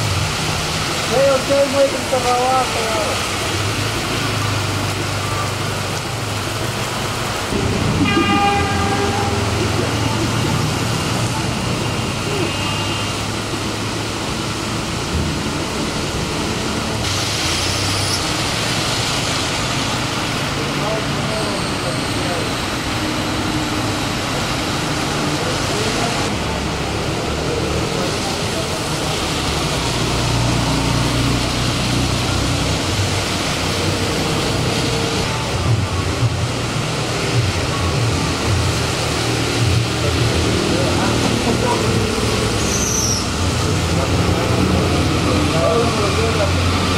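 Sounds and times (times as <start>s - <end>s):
cars driving on wet road: 0.0s - 46.9s
heavy rain pouring: 0.0s - 46.9s.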